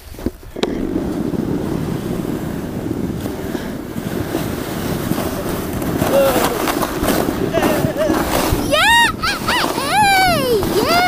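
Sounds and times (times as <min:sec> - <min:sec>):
sled scraping over snow: 0:00.0 - 0:11.0
wind buffeting microphone: 0:00.0 - 0:11.0.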